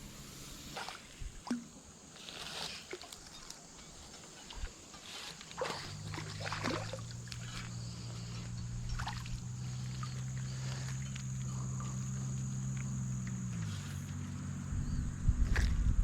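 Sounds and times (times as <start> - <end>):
steady low hum: 0.0 - 2.1, 3.6 - 16.0
water splashing and sloshing: 0.5 - 14.0.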